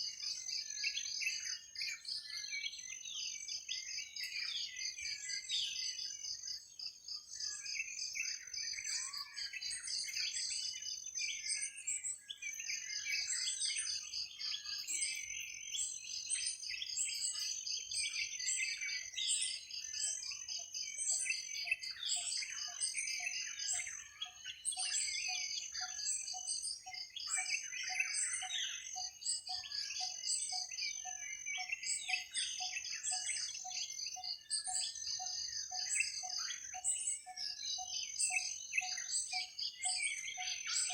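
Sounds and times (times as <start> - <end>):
birds chirping and warbling: 0.0 - 40.9.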